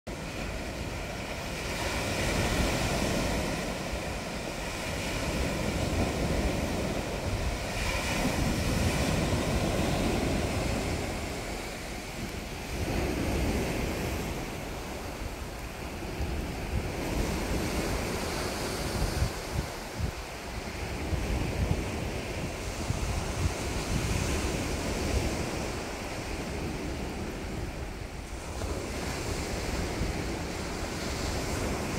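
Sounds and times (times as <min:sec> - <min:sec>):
sea waves breaking on beach: 0:00.1 - 0:31.9
wind buffeting microphone: 0:00.1 - 0:31.9.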